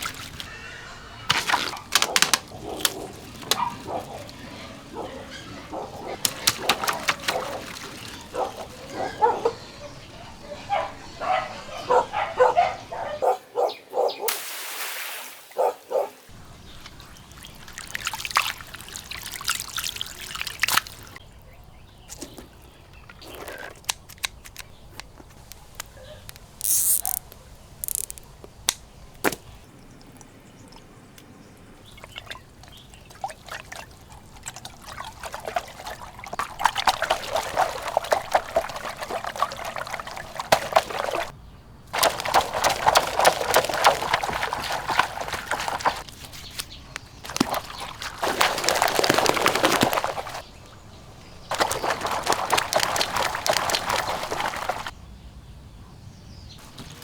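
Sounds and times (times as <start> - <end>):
water pouring and trickling: 0.0 - 11.5, 16.3 - 21.2, 22.1 - 28.4, 29.4 - 55.0
water splashing: 0.0 - 13.2, 14.3 - 21.2, 22.1 - 55.0.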